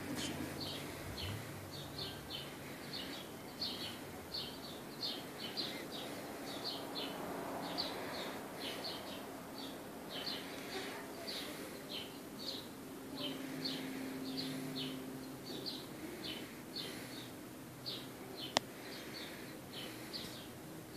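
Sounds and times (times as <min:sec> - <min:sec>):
faint background hum: 0:00.0 - 0:20.9
small birds chirping: 0:00.0 - 0:20.9.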